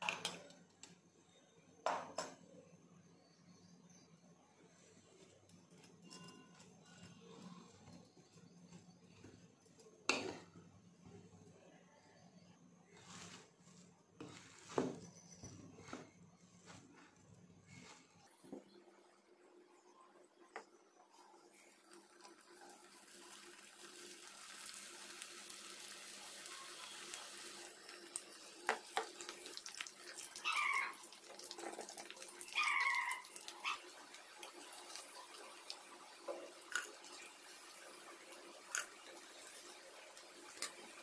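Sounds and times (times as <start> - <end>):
batter deep-frying in oil: 0.0 - 17.0, 17.9 - 41.0.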